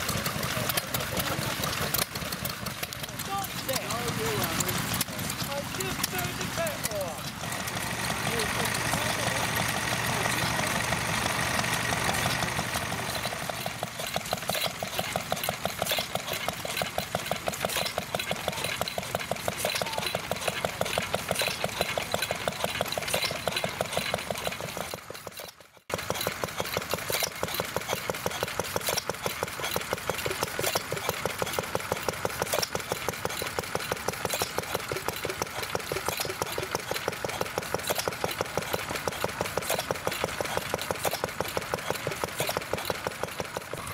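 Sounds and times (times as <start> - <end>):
engine sharp exhaust beats: 0.0 - 43.9
twin-cylinder engine fast beat: 0.0 - 43.9.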